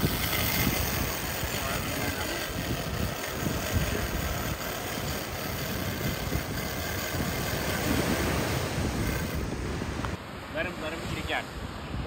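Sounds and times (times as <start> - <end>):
wind buffeting microphone: 0.0 - 10.2
ocean surf breaking: 0.0 - 12.0.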